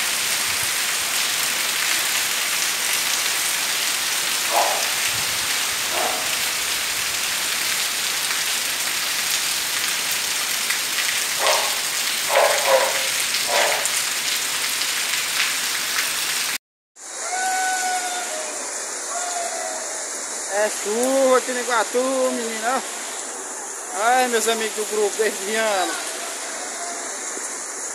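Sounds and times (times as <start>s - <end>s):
rain on roof tiles: 0.0s - 16.6s, 17.6s - 27.9s.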